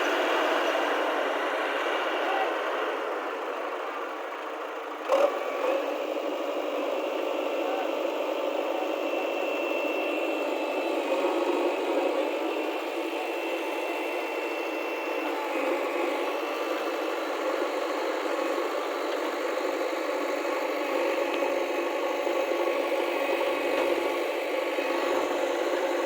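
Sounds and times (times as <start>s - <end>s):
diesel engine running with rattling: 0.0s - 26.0s.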